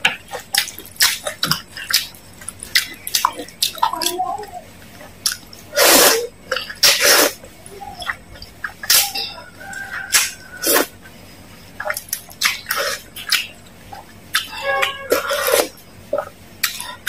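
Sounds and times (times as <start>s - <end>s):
noodles slurped and chewed: 0.1s - 11.0s, 11.8s - 17.0s.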